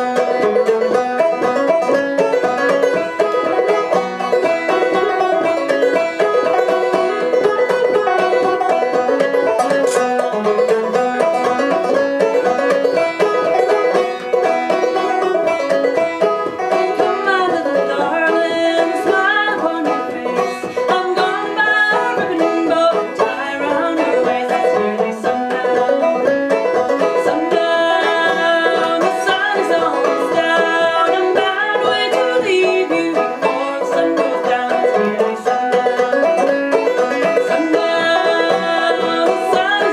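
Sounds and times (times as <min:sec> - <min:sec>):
live band playing: 0:00.0 - 0:39.9
picked string notes: 0:00.0 - 0:39.9.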